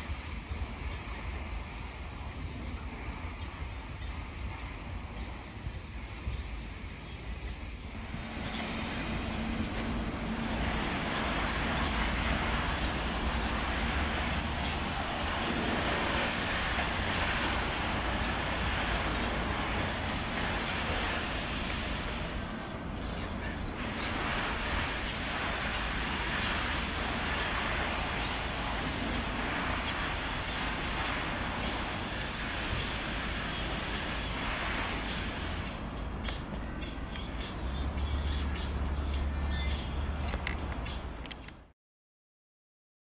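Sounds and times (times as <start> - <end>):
electric train rumbling on tracks: 0.0 - 41.7.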